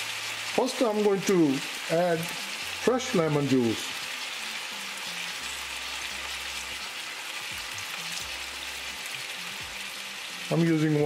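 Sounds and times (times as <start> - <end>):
ribs sizzling in a frying pan: 0.0 - 11.0.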